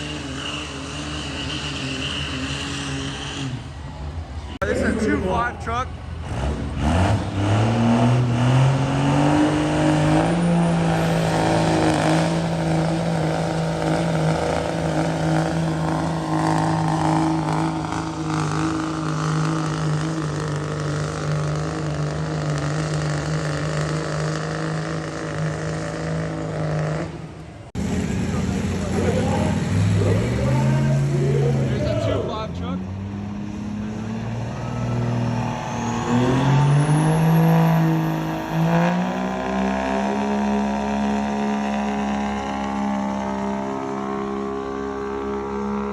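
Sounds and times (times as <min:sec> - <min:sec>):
diesel truck engine revving: 0:00.0 - 0:45.9.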